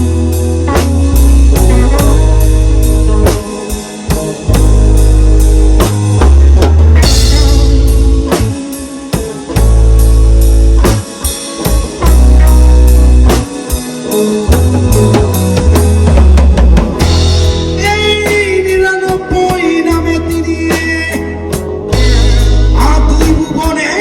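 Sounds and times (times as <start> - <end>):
bass guitar: 0.0 - 24.0
drum kit steady beat: 0.0 - 24.0
electric guitar: 0.0 - 24.0.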